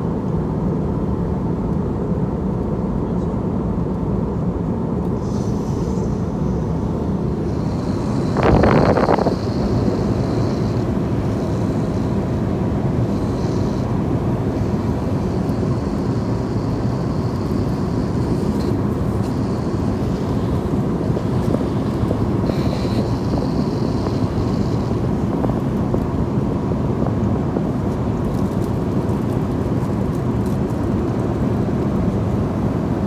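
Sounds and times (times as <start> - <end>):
airliner cabin engine drone: 0.0 - 33.0.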